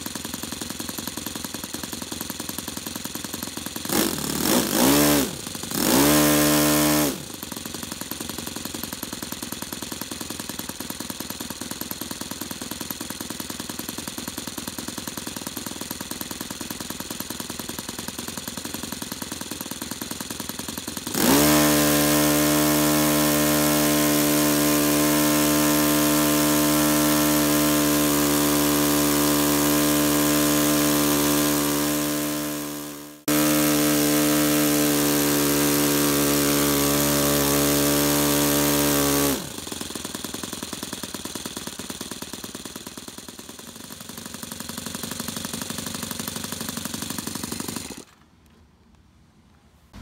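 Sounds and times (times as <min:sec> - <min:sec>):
model aircraft engine running: 0:00.0 - 0:48.2.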